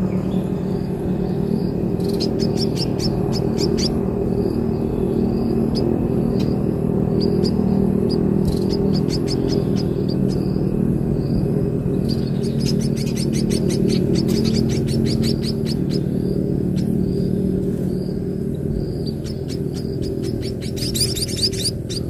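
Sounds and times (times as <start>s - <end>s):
chicks chirping: 0.0s - 22.0s
loud low hum: 0.0s - 22.0s.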